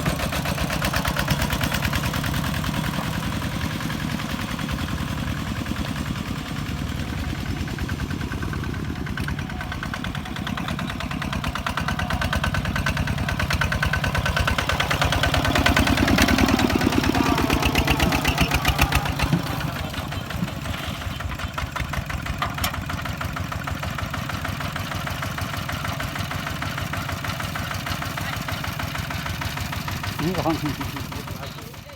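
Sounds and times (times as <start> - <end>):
diesel engine under load: 0.0 - 31.9.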